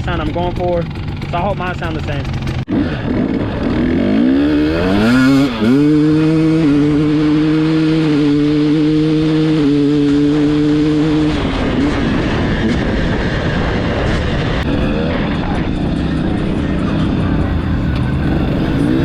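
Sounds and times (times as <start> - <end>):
two-stroke dirt bike engine revving: 0.0 - 19.0.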